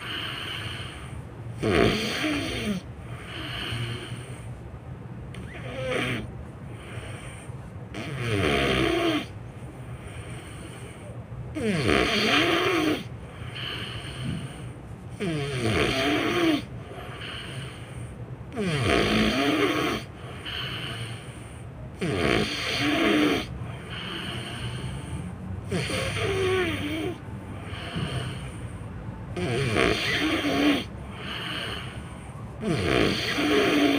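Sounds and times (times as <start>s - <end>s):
person snoring loudly: 0.0s - 4.4s, 5.4s - 9.3s, 11.6s - 14.6s, 15.2s - 17.8s, 18.5s - 21.4s, 22.0s - 28.6s, 29.4s - 33.9s.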